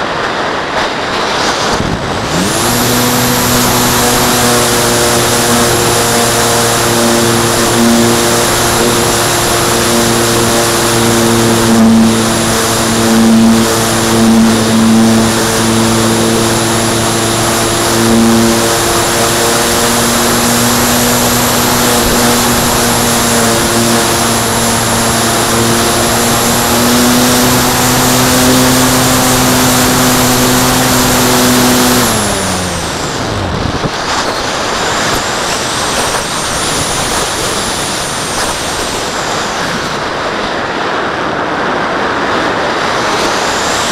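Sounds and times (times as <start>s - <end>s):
air rushing past: 0.0s - 43.9s
model plane motor and propeller: 0.0s - 43.9s.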